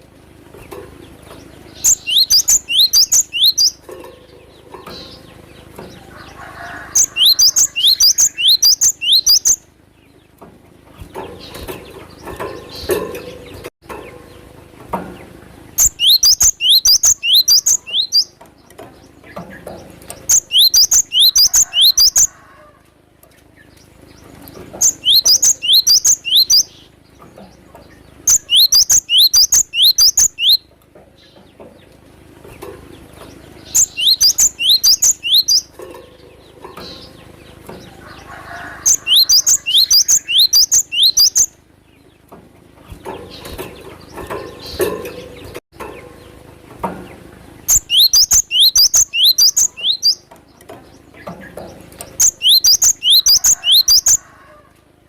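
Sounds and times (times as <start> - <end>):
bird chirping: 0.5 - 22.4, 23.5 - 54.3.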